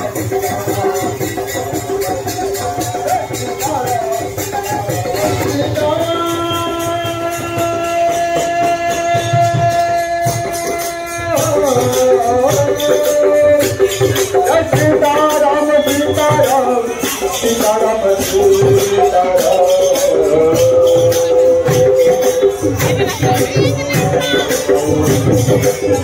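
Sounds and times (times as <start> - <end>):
jingling percussion: 0.0 - 26.0
person singing devotional music: 0.0 - 26.0
steady drum beat: 0.0 - 26.0.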